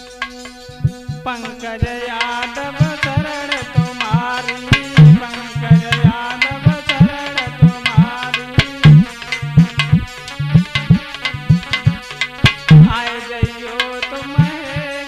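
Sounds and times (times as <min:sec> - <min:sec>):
hand drum rhythm: 0:00.0 - 0:15.0
wavering melodic line: 0:00.0 - 0:15.0.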